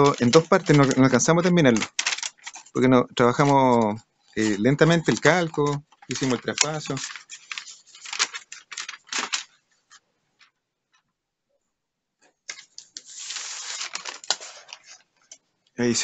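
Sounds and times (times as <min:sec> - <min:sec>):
paper sheets rustling: 0:00.0 - 0:10.0, 0:12.5 - 0:15.4
paper and cloth rustling: 0:00.0 - 0:10.5, 0:12.5 - 0:15.4.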